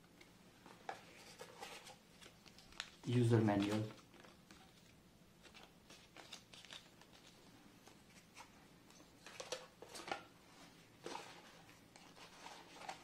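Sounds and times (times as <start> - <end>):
paper and cardboard rustling: 0.6 - 13.0.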